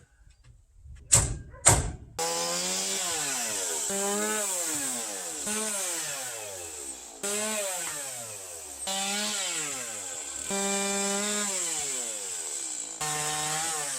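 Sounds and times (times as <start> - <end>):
chainsaw cutting wood: 2.2 - 13.9.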